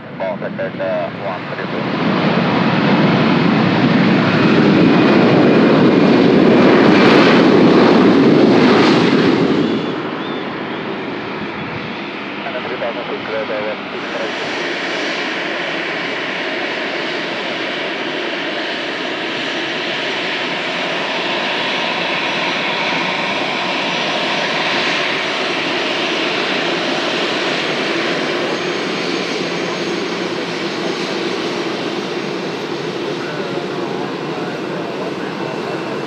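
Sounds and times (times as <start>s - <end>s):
jet engines at low power: 0.0s - 36.0s.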